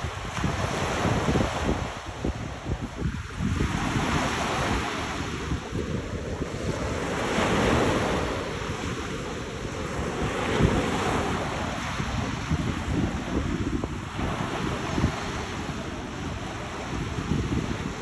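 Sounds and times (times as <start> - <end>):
ocean waves washing onto beach: 0.0 - 18.0
wind buffeting microphone: 0.0 - 18.0.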